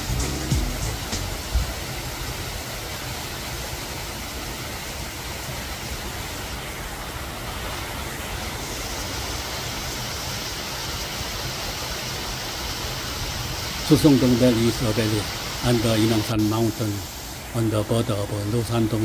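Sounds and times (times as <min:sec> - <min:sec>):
small waterfall: 0:00.0 - 0:19.0
stream rushing and splashing: 0:00.0 - 0:19.0.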